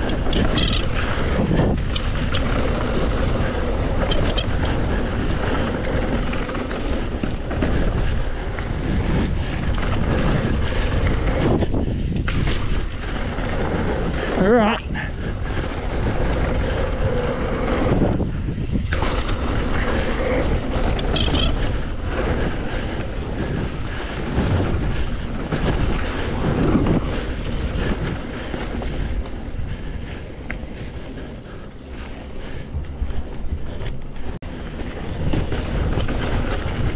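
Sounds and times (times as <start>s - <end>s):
bike tyres rattling on rough ground: 0.0s - 36.9s
wind rushing on microphone: 0.0s - 36.9s.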